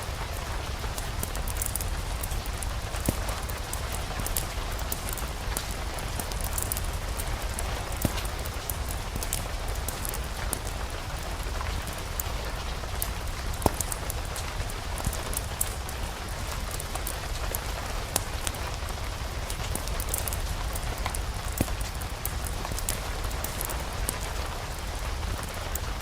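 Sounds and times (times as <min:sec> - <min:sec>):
fireplace crackling: 0:00.0 - 0:26.0
steady rain: 0:00.0 - 0:26.0.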